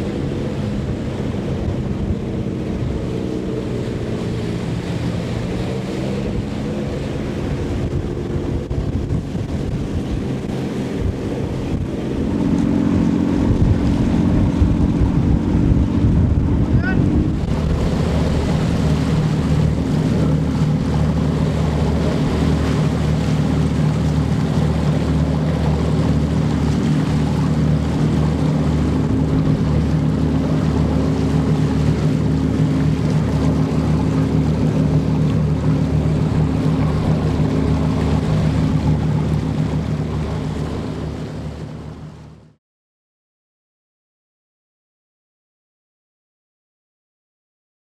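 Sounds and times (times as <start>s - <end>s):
motorboat engine running: 0.0s - 42.6s
water noise: 0.0s - 42.6s
wind: 0.0s - 42.6s.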